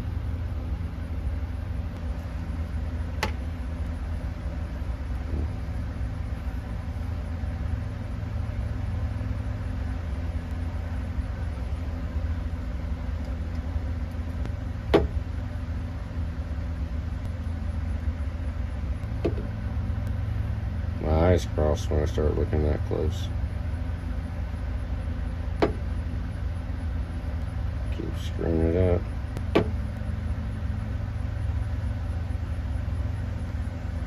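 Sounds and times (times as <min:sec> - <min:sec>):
engine idling with low hum: 0:00.0 - 0:34.0.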